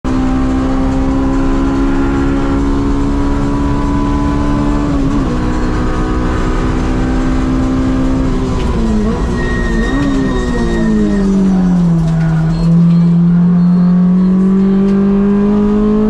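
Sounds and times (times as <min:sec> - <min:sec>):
engine high-pitched drone: 0:00.1 - 0:16.0.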